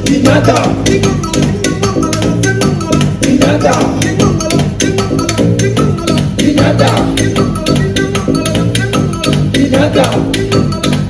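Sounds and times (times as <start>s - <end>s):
live band playing dance music: 0.0s - 11.0s.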